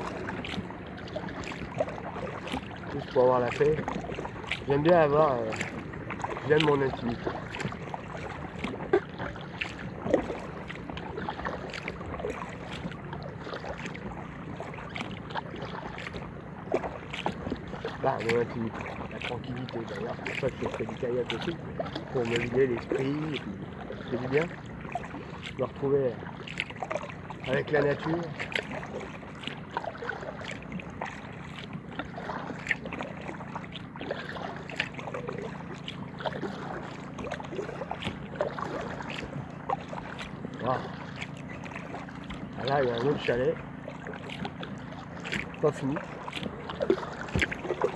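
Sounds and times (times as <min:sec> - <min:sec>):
kayak paddle splashing in water: 0:00.0 - 0:47.9.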